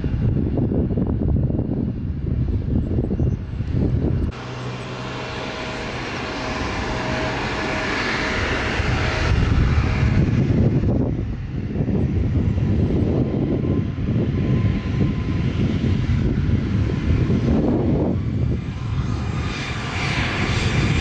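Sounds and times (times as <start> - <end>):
jet airliner engines whining: 0.0 - 21.0
low rumble: 0.0 - 21.0.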